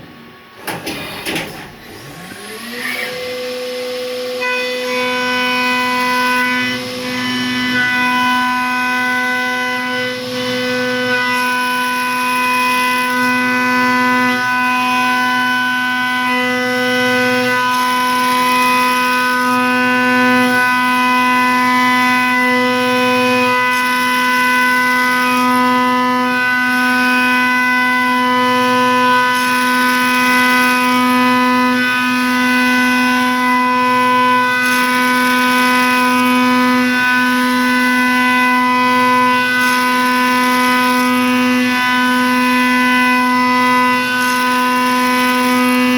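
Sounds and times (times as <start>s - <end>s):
milling machine whine: 0.0s - 45.9s.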